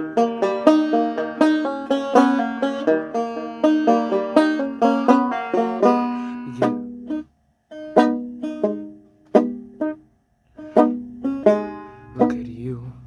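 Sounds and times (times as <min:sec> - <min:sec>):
banjo picking: 0:00.0 - 0:13.0.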